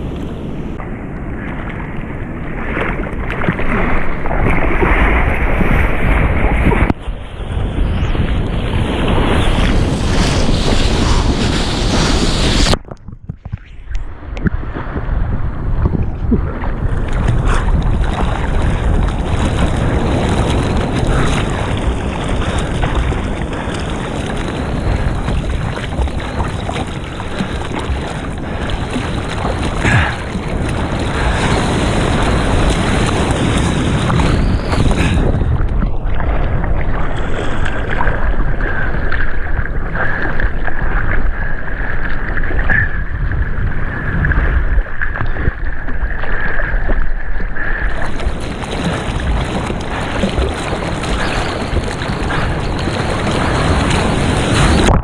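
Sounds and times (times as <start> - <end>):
ocean water sloshing: 0.0 - 55.0
wind on microphone: 0.0 - 55.0.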